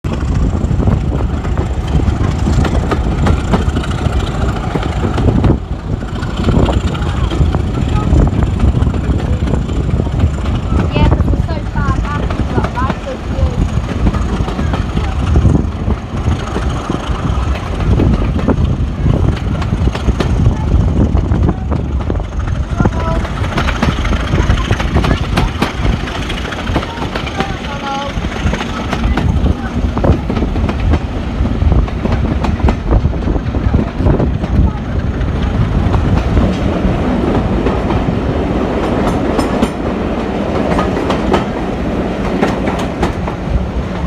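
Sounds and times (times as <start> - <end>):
train rumbling: 0.0 - 44.0
wheels clicking and knocking: 0.1 - 44.0.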